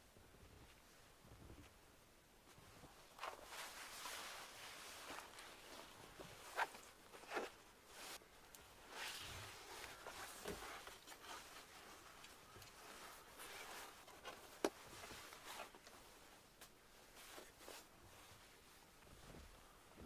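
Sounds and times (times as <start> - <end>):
soft rustling and handling: 0.0 - 20.0.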